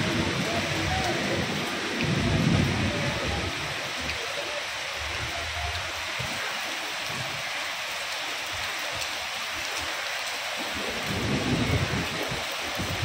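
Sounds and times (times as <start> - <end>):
rain falling on street: 0.0 - 13.0.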